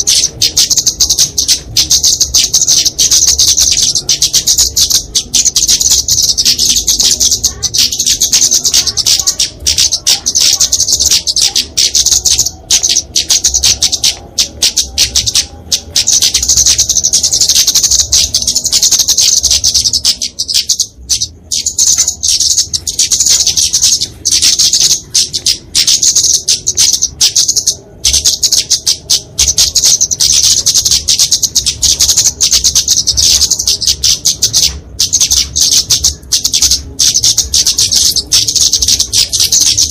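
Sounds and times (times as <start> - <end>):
bird chips and twitters: 0.0 - 39.9.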